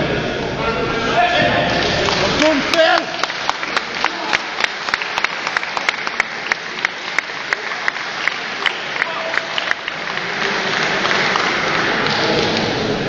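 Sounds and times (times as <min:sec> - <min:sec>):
crowd noise: 0:00.0 - 0:13.0
hand claps: 0:01.8 - 0:12.7.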